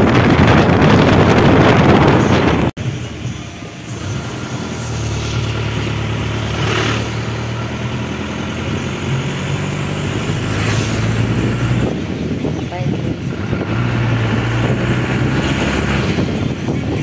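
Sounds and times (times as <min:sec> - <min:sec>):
engine running with low hum: 0:00.1 - 0:17.0.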